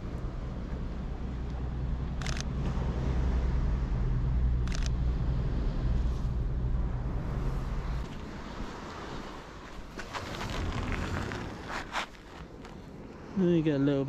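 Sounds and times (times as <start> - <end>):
low rumble: 0.0 - 13.2.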